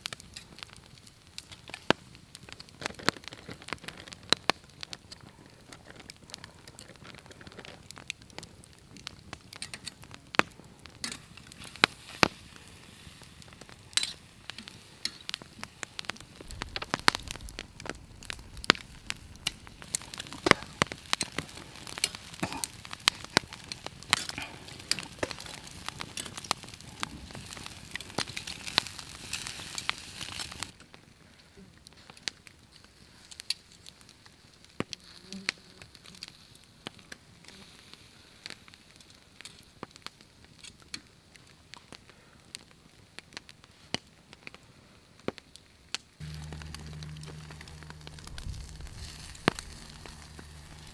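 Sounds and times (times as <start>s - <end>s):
chicken sizzling on a grill: 0.0s - 41.2s, 46.2s - 50.9s
campfire wood crackling: 0.0s - 50.9s.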